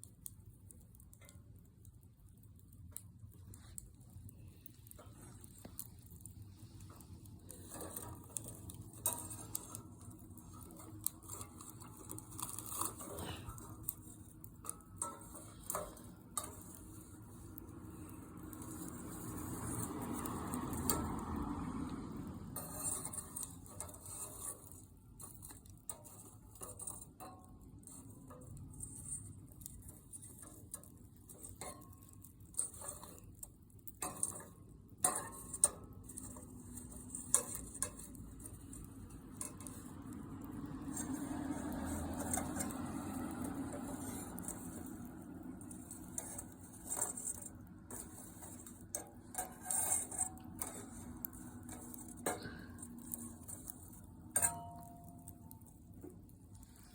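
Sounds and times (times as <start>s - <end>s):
wood fire crackling: 0.0s - 56.9s
flame rushing: 2.3s - 27.0s, 27.8s - 34.4s, 35.0s - 54.2s.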